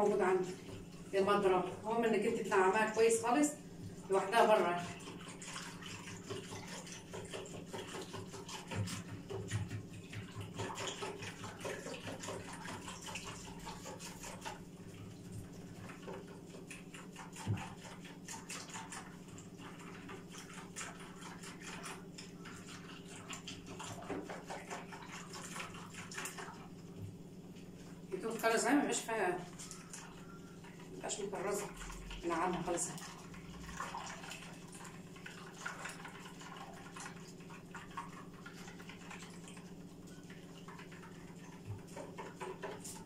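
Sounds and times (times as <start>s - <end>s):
soft wet sloshing: 0.0s - 43.0s
whisk ticking and scraping bowl: 0.0s - 43.0s.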